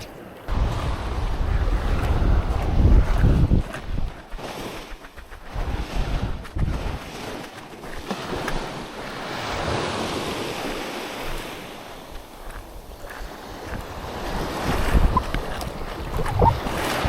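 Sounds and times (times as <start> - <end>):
waves breaking on a beach: 0.0 - 17.0
wind buffeting the microphone: 0.0 - 17.0.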